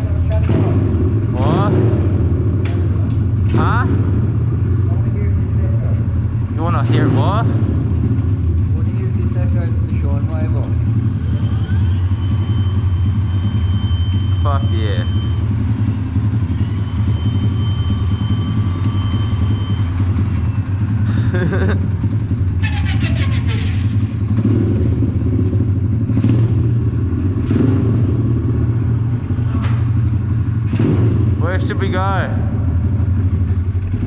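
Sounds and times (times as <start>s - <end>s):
dirt bike engine idling: 0.0s - 34.0s.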